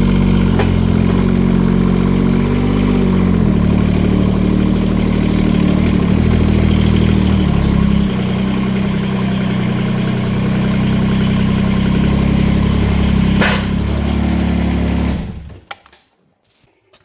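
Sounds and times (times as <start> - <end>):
engine idling: 0.0 - 15.7
engine shutting off: 0.0 - 15.7.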